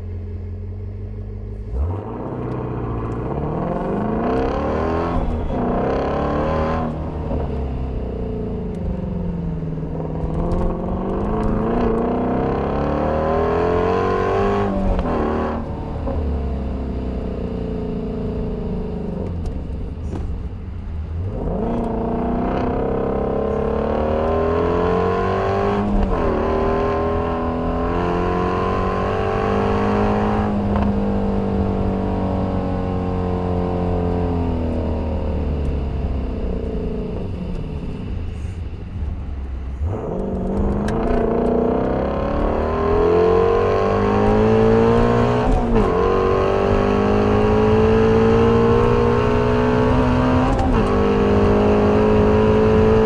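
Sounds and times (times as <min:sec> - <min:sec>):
road and wind noise: 0:00.0 - 0:53.0
car engine accelerating hard: 0:01.2 - 0:20.5, 0:21.1 - 0:53.0.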